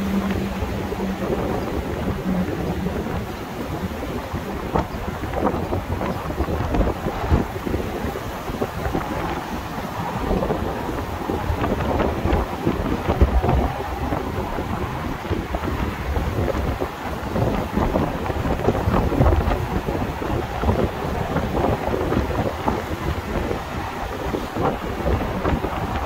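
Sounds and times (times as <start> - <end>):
heavy road traffic: 0.0 - 26.0
wind buffeting microphone: 0.0 - 26.0.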